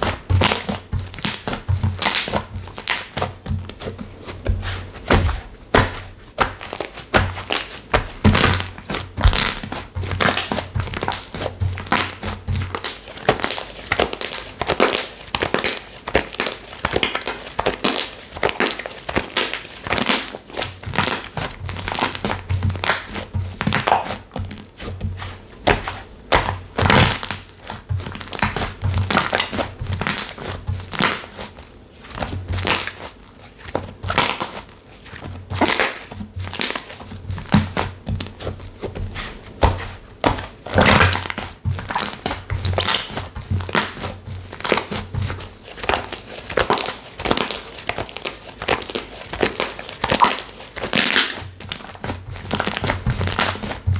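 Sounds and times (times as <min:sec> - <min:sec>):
slime crackling and popping: 0:00.0 - 0:04.2, 0:05.0 - 0:24.4, 0:25.7 - 0:31.5, 0:33.8 - 0:34.7, 0:35.4 - 0:53.9.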